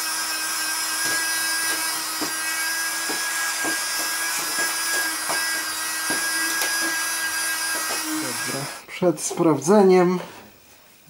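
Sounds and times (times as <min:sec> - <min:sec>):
electric brush motor hum: 0:00.0 - 0:08.9.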